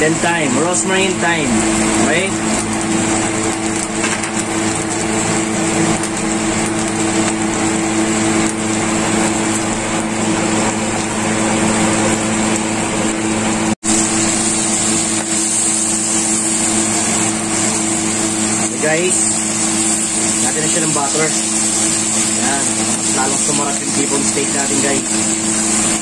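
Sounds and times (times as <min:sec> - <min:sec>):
steady mechanical hum: 0:00.0 - 0:26.0
steak sizzling in a frying pan: 0:00.1 - 0:12.8, 0:13.9 - 0:26.0.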